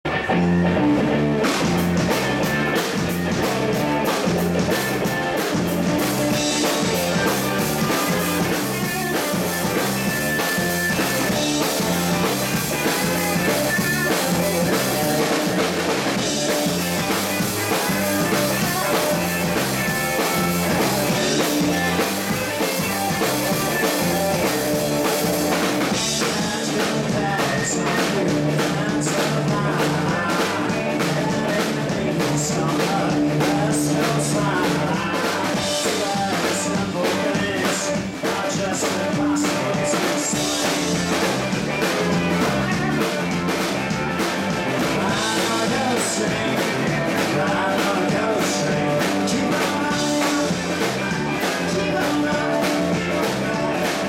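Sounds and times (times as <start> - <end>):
electric bass: 0.0 - 54.0
electric guitar: 0.0 - 54.0
drum kit: 0.1 - 54.0.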